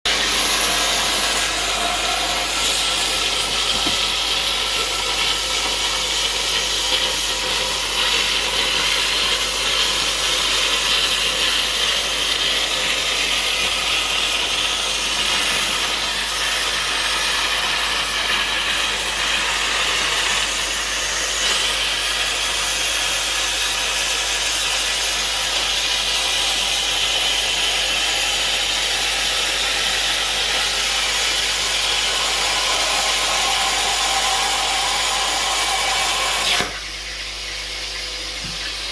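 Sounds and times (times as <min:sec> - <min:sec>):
plasma cutter hissing: 0:00.0 - 0:37.1.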